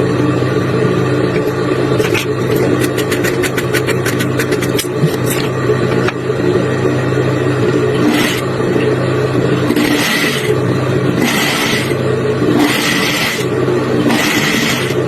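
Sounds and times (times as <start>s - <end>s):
machinery motor hum: 0.0s - 15.0s.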